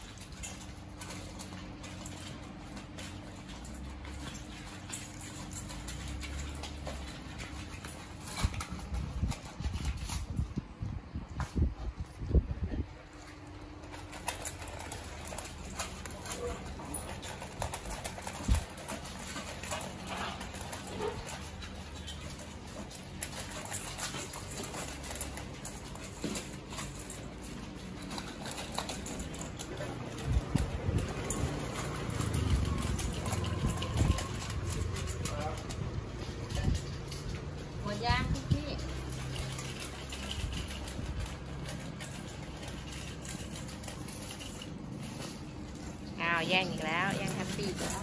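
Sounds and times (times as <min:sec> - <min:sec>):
dog claws clicking on tile floor: 0:00.0 - 0:48.0.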